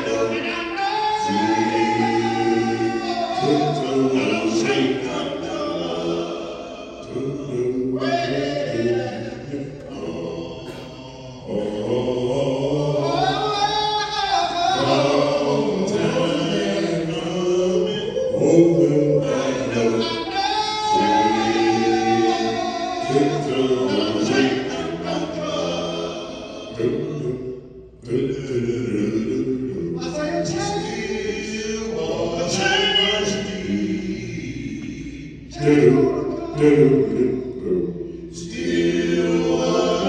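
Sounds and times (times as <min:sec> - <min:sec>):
male vocal group singing in harmony: 0:00.0 - 0:40.0.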